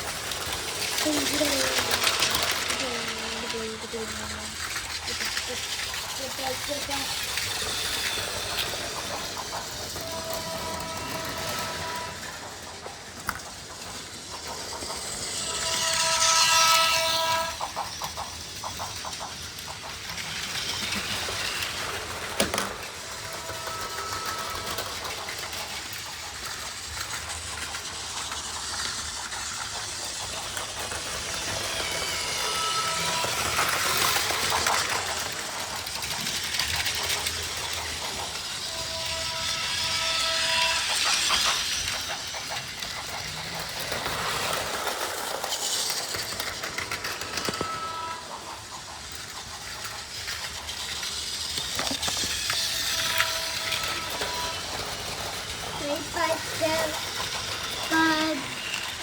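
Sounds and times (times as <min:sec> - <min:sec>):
toy trains whirring and clattering: 0:00.0 - 0:59.0.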